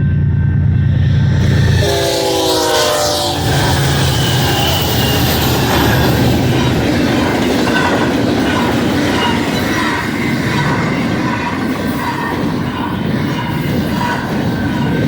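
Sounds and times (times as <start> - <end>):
freight train wheels rattling: 0.3 - 15.0
wheels squealing: 1.0 - 15.0.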